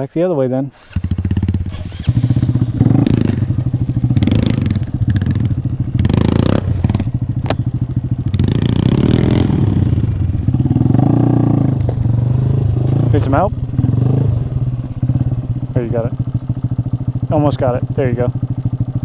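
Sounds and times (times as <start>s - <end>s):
motorcycle engine revving: 0.7s - 19.0s.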